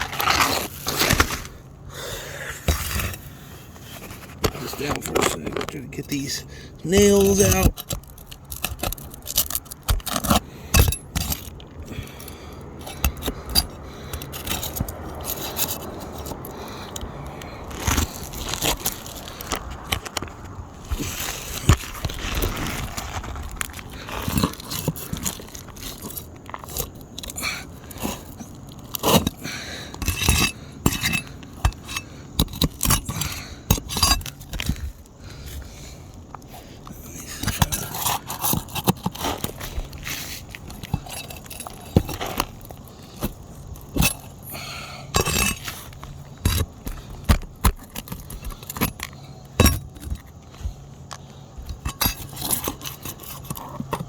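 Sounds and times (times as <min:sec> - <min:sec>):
tool scraping roof shingles: 0:00.0 - 0:01.7, 0:02.4 - 0:54.0.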